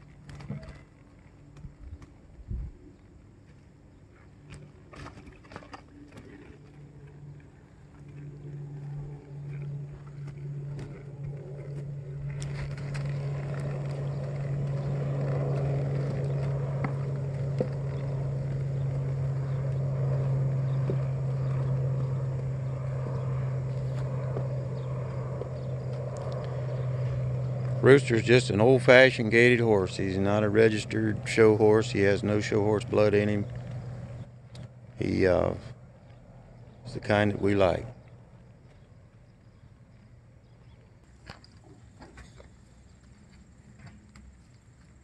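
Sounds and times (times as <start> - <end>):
motor engine humming: 0.0 - 45.0.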